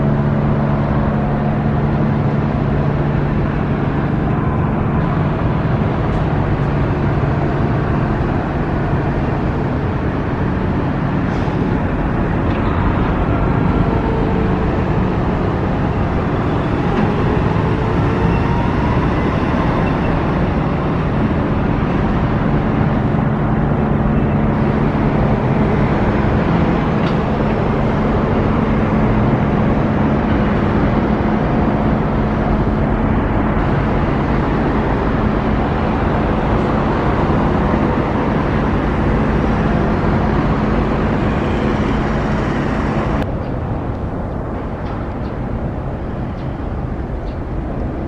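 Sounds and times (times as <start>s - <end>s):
road noise: 0.0s - 48.0s
vehicle engine hum: 0.0s - 48.0s.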